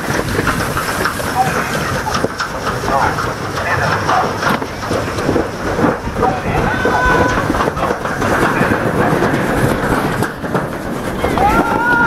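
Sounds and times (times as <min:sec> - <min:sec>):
sled rattling on metal track: 0:00.0 - 0:12.0.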